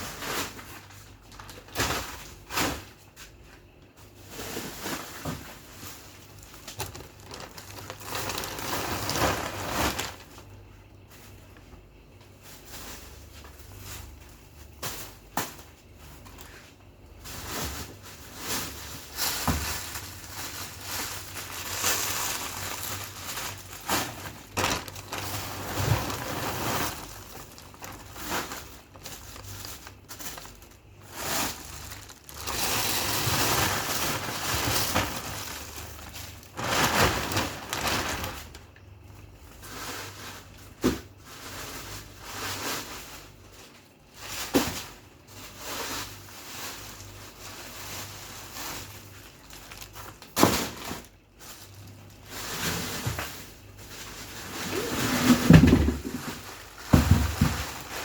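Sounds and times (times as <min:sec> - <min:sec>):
plastic bags crinkling: 0:00.0 - 0:03.0, 0:04.1 - 0:11.6, 0:12.4 - 0:58.0.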